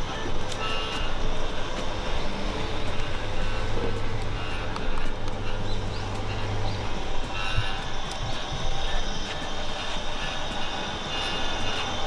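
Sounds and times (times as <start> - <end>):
machine humming and rumbling: 0.0 - 12.0.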